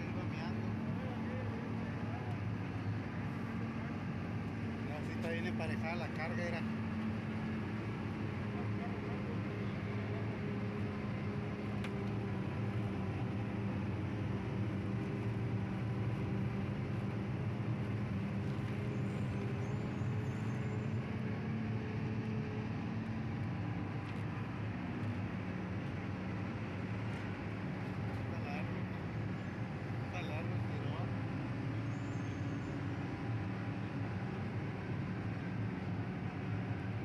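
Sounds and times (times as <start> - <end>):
road noise: 0.0 - 37.0
truck engine droning: 0.0 - 37.0.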